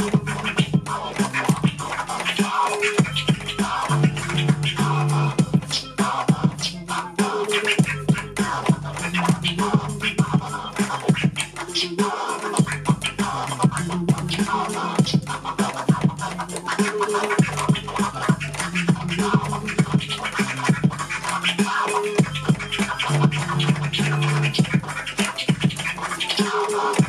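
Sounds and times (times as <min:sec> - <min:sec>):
hip hop beat: 0:00.0 - 0:27.0
vinyl record scratching: 0:00.0 - 0:27.0.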